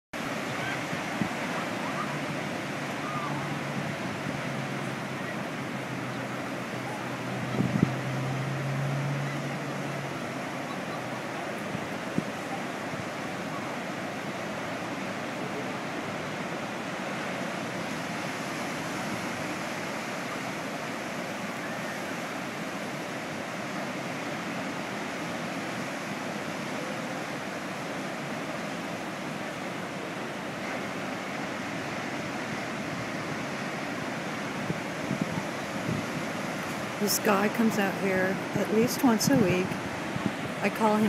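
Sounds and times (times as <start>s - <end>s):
wind: 0.1s - 41.0s
ocean surf: 0.2s - 41.0s.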